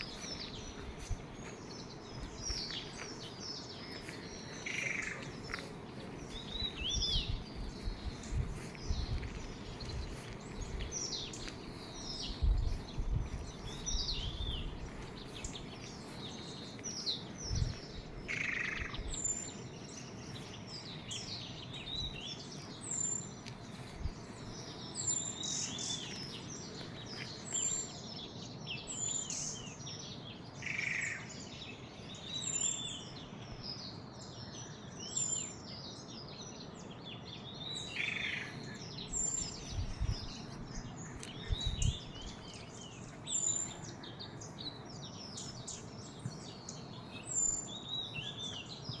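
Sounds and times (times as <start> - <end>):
birds chirping in chorus: 0.0 - 49.0.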